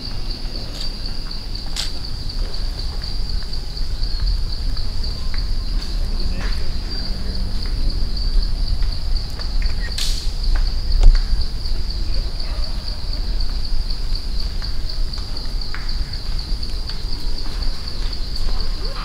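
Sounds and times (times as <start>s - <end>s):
insects chorus pulsing: 0.0s - 19.0s
low rumble: 2.0s - 19.0s.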